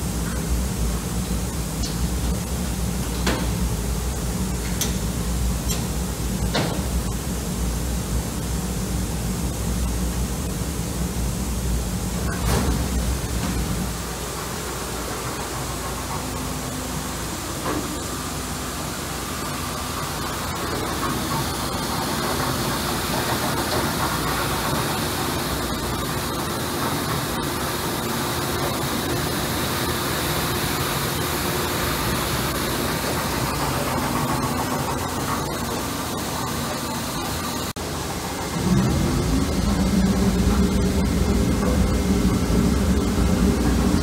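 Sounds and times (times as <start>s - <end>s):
machine humming: 0.0s - 44.0s.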